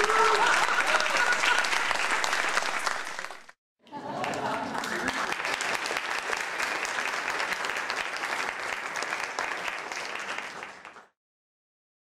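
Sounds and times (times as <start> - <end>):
crowd clapping: 0.0 - 11.2.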